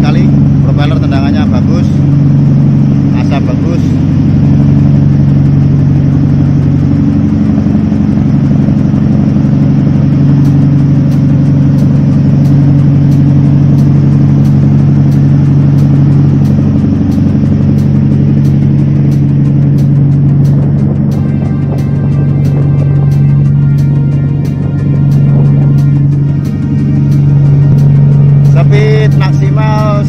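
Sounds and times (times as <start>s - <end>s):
diesel engines droning: 0.0s - 30.0s
propeller wash churning: 0.0s - 30.0s.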